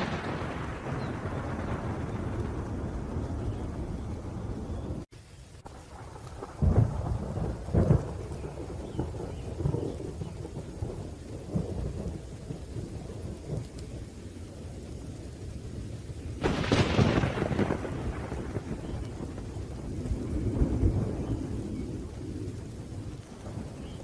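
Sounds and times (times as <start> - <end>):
sharp thunderclap: 0.0 - 5.1, 5.7 - 13.9, 16.4 - 24.0
low rolling thunder: 0.0 - 24.0
steady rain: 0.0 - 24.0.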